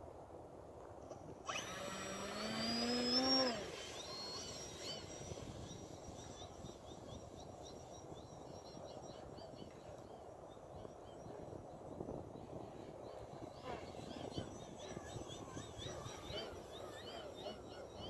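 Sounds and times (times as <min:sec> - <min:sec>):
faint high whine: 0:00.0 - 0:18.0
wind noise: 0:00.0 - 0:18.0
model plane motor whining: 0:01.4 - 0:11.6, 0:12.2 - 0:18.0.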